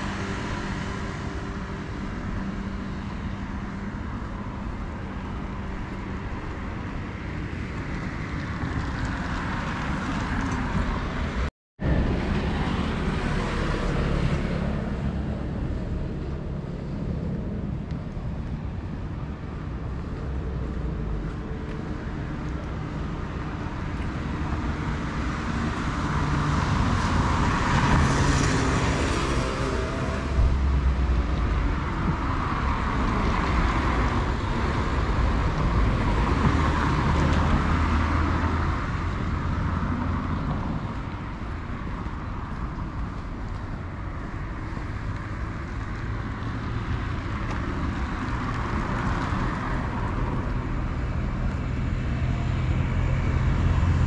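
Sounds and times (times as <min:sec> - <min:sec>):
hum of cars: 0:00.0 - 0:54.0
vehicles passing: 0:00.0 - 0:54.0.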